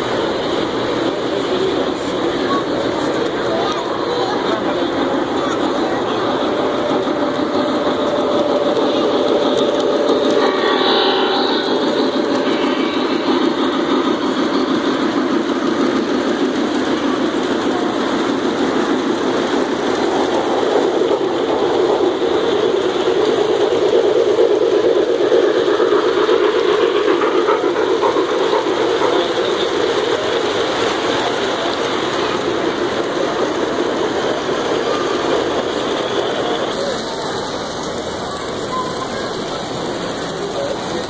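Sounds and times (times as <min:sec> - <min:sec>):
model train wheels clattering on track: 0:00.0 - 0:41.0.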